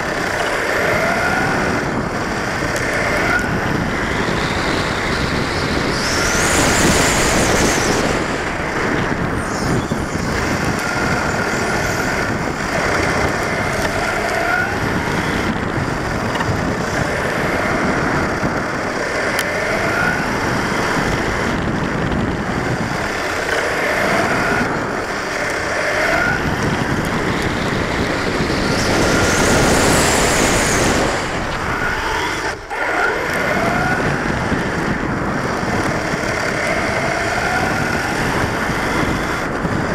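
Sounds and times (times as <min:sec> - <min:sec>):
electric motor whine: 0:00.0 - 0:39.9
wind and tyre noise: 0:00.0 - 0:39.9.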